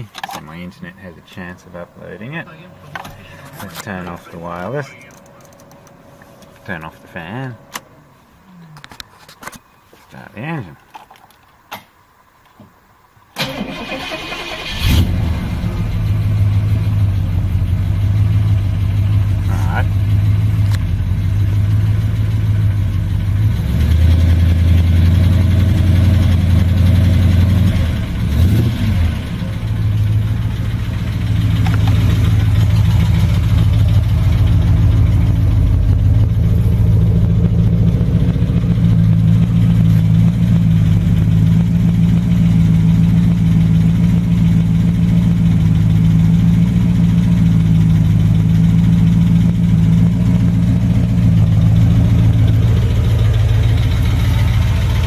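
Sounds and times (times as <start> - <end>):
engine idling: 0.0 - 9.0, 13.4 - 55.0.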